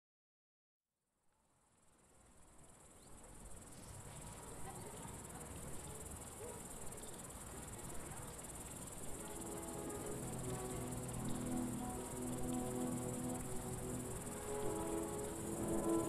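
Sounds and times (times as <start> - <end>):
insects chirring: 1.7 - 16.0.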